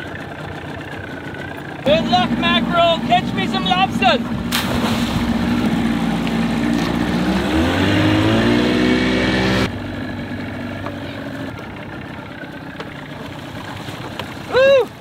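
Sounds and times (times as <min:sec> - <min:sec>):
boat motor revving: 0:00.0 - 0:15.0
low engine hum: 0:00.0 - 0:15.0.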